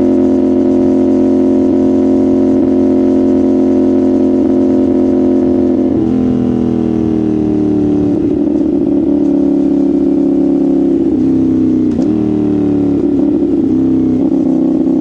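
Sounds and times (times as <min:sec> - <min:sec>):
motorcycle engine and exhaust: 0:00.0 - 0:15.0.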